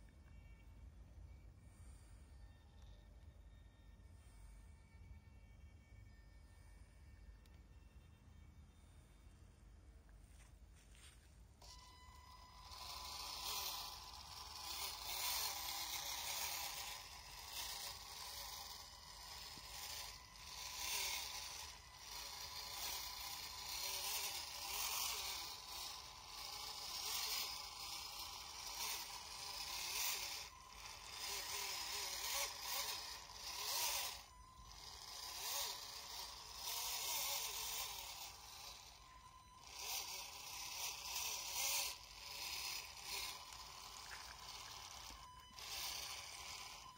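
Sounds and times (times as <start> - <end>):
small electric motor whirring: 1.3 - 9.3, 10.0 - 46.9.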